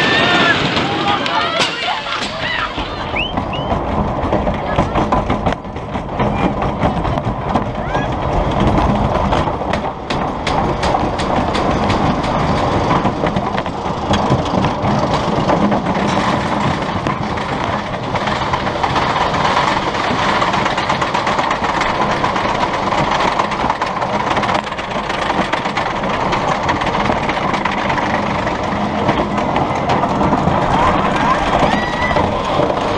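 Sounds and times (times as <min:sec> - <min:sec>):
ride train rattling on rails: 0:00.0 - 0:32.9.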